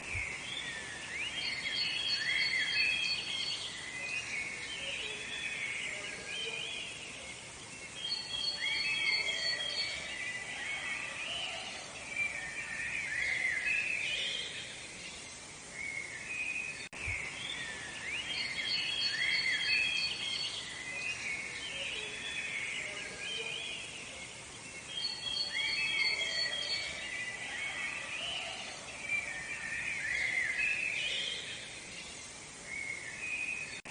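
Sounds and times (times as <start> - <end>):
faint background hiss: 0.0 - 33.9
songbirds singing and chirping: 0.0 - 33.9.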